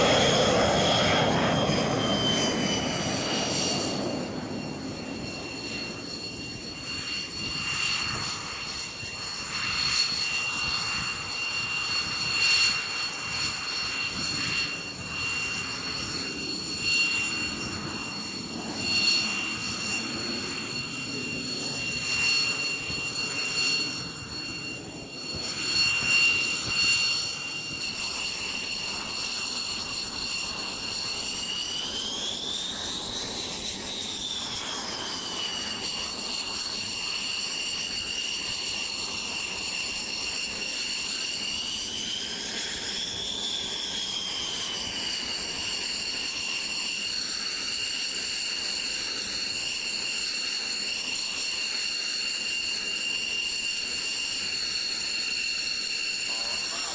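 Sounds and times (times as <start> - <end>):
jet engine whining: 0.0 - 56.9.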